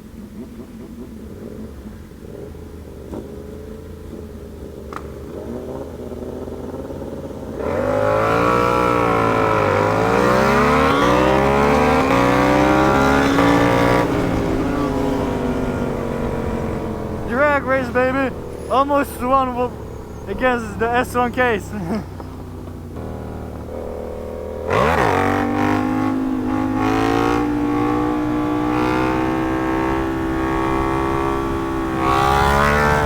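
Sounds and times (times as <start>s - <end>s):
motorcycle engine revving through upshifts: 0.1s - 33.0s.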